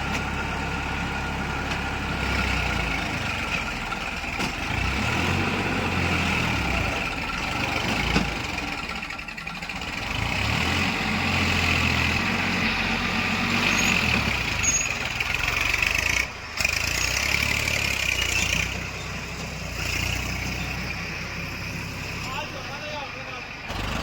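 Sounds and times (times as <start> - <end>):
diesel machinery engine running: 0.0 - 24.0.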